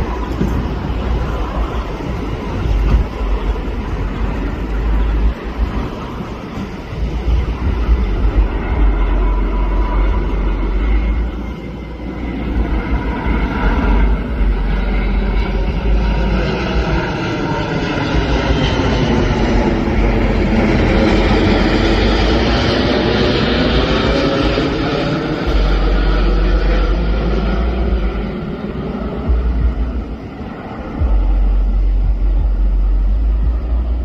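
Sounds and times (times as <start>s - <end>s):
jet engines rumbling: 0.0s - 34.0s
wind buffeting microphone: 0.0s - 34.0s.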